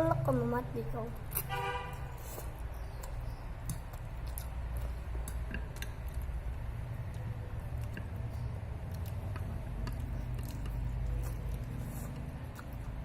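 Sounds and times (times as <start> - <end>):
chewing noodles: 1.2 - 13.0.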